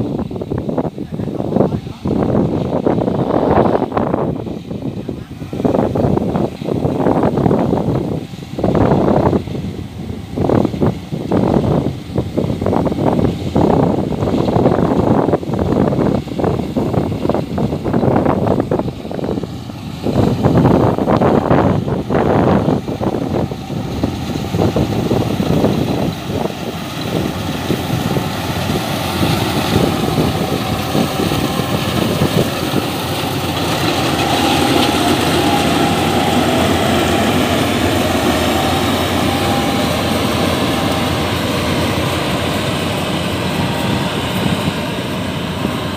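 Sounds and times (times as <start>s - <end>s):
combine harvester engine drone: 0.0s - 45.9s
steady machine whine: 0.0s - 45.9s.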